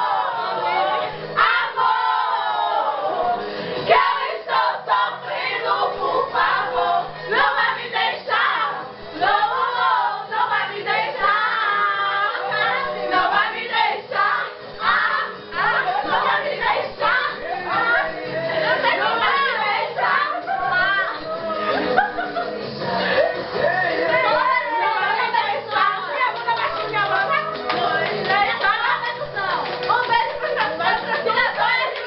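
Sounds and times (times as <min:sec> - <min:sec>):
group of voices singing: 0:00.0 - 0:32.0.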